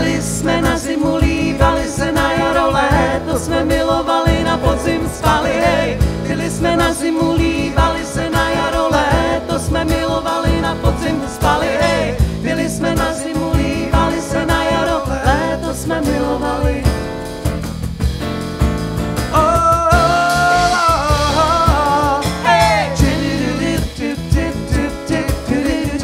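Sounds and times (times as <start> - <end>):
acoustic guitar: 0.0 - 26.0
drum kit: 0.0 - 26.0
electric bass guitar: 0.0 - 26.0.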